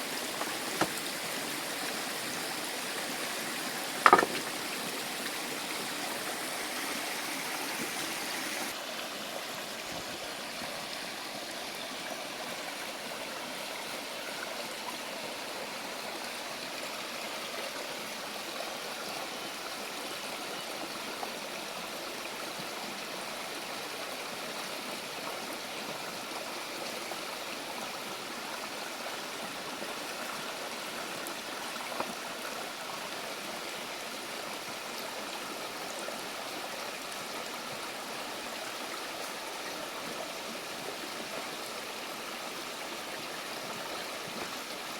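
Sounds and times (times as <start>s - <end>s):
stream water flowing: 0.0s - 44.9s.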